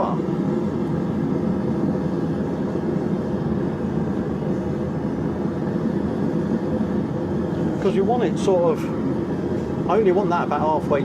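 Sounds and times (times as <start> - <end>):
forge low rumble: 0.0 - 11.0.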